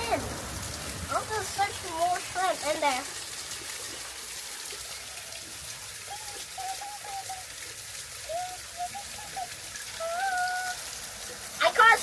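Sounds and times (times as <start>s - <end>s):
water trickling in a river: 0.0s - 12.0s.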